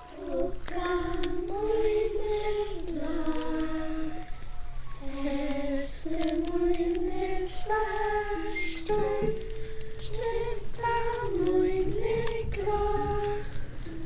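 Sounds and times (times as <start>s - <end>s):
voices singing wordless melody: 0.0s - 14.0s.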